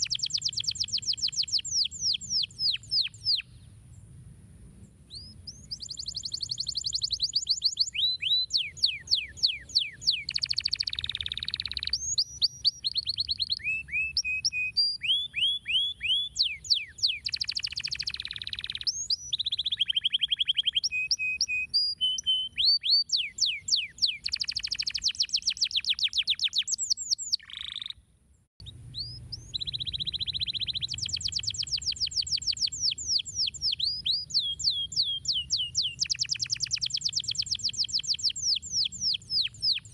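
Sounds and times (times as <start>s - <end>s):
canary singing trills: 0.0s - 3.6s, 5.1s - 28.0s, 28.6s - 39.9s.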